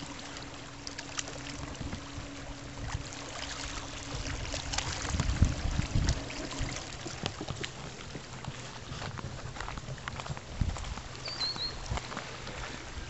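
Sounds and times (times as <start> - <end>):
faint steady hum: 0.0 - 13.0
wind buffeting microphone: 1.6 - 13.0.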